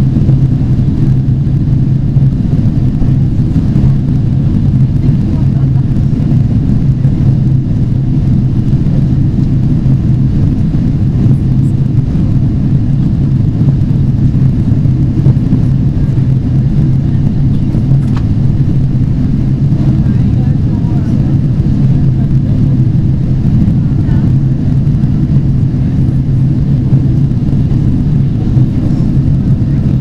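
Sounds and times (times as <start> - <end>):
airplane cabin rumble: 0.0 - 30.0.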